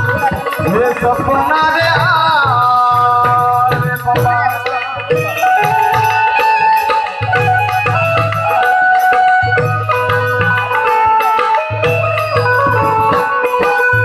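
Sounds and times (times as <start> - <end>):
low hand-drum beat: 0.0 - 14.0.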